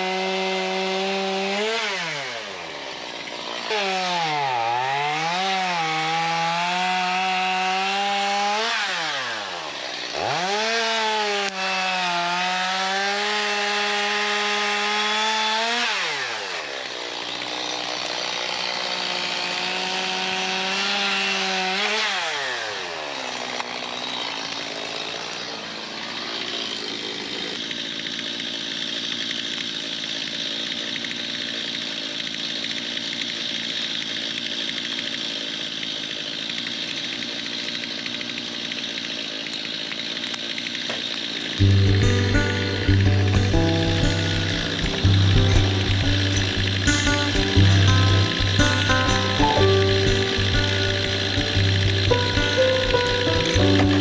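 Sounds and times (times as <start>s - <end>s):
chainsaw cutting logs: 0.0s - 54.0s.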